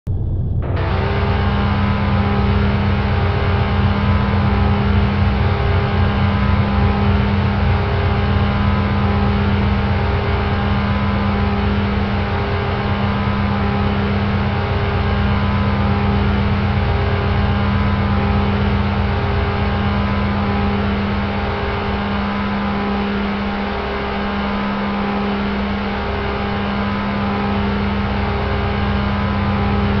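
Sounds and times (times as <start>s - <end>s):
car engine droning: 0.1s - 30.0s.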